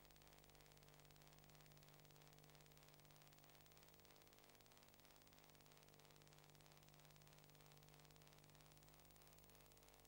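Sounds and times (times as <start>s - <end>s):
faint electrical hum and hiss: 0.0s - 10.0s.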